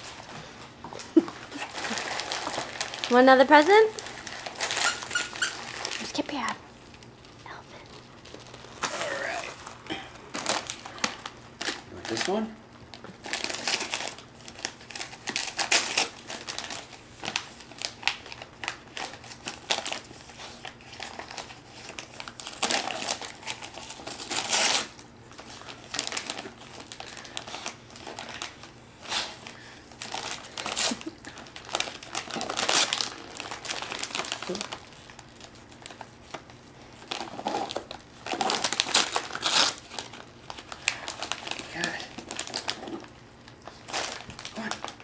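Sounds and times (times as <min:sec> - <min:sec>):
wrapping paper crinkling and ripping: 0:00.0 - 0:45.0.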